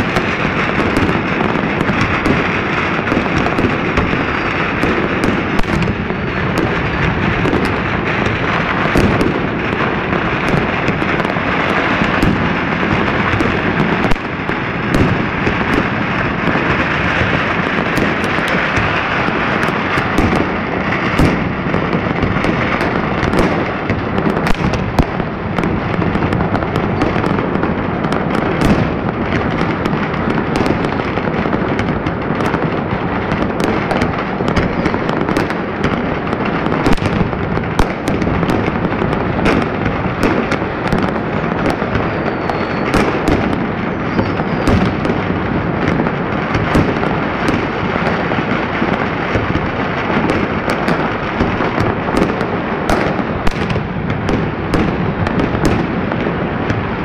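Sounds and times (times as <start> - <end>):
fireworks crackling: 0.0 - 57.0
loud single firework bangs: 0.0 - 57.0.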